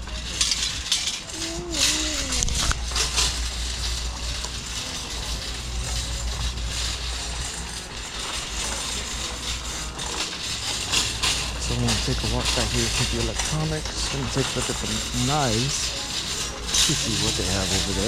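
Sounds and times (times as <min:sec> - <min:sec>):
clicks and rustles of handling: 0:00.0 - 0:18.0.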